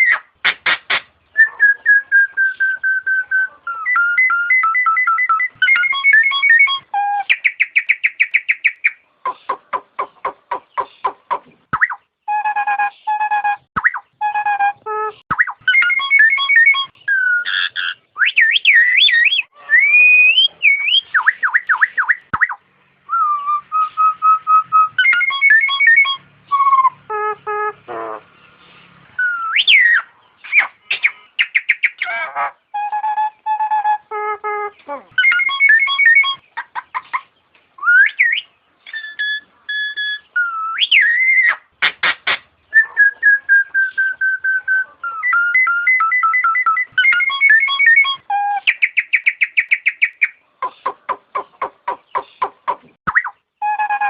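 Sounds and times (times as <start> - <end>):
myna whistling song: 1.2 - 9.6, 10.5 - 27.8, 29.2 - 41.7, 42.7 - 54.0.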